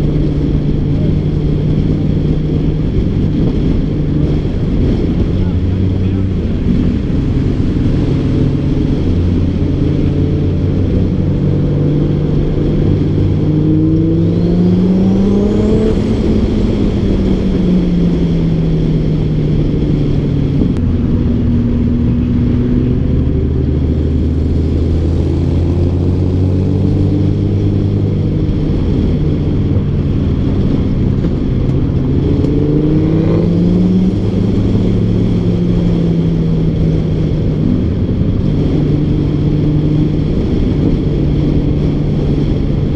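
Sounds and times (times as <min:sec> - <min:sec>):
car engine accelerating: 0:00.0 - 0:42.9
road and wind noise: 0:00.0 - 0:42.9.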